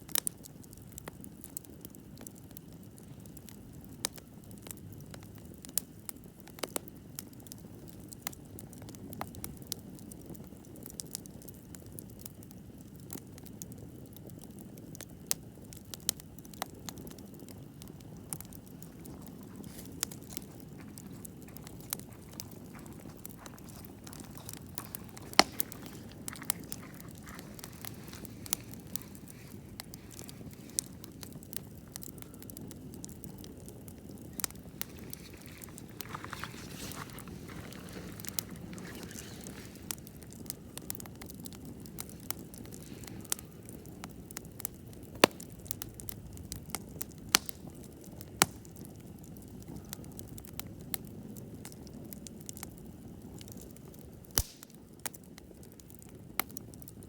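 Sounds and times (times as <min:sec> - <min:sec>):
campfire crackling and popping: 0:00.0 - 0:57.0
low fire rumble: 0:00.0 - 0:57.0.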